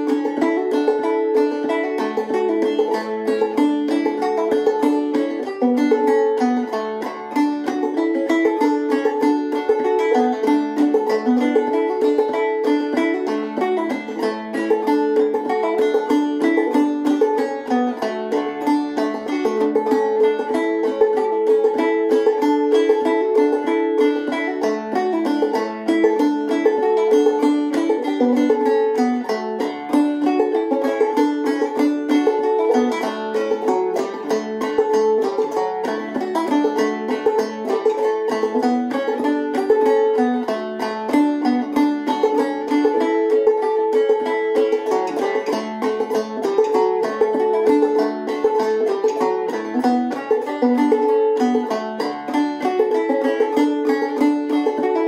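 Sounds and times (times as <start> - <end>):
clawhammer banjo playing: 0.0 - 55.0.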